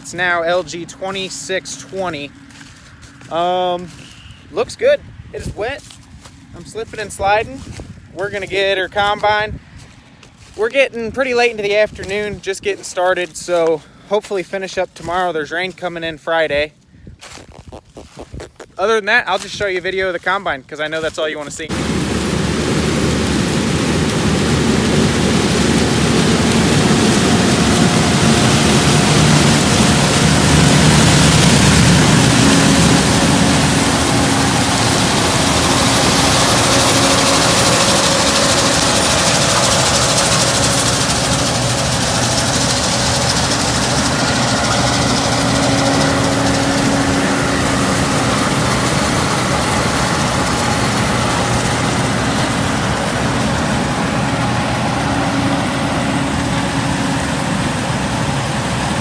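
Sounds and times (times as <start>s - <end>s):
combine harvester engine drone: 0.0s - 13.3s, 21.0s - 59.0s.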